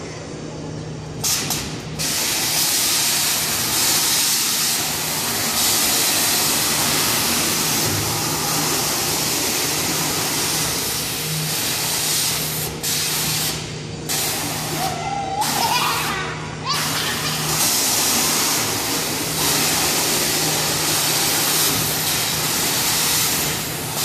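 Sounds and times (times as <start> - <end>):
loud steady hiss of air: 0.9 - 24.0.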